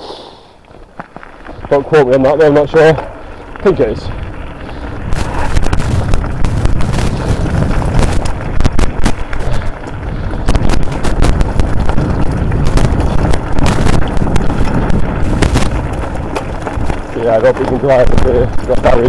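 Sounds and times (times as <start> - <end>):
bike rattling and clattering: 0.7 - 19.0
wind buffeting microphone: 0.8 - 19.0.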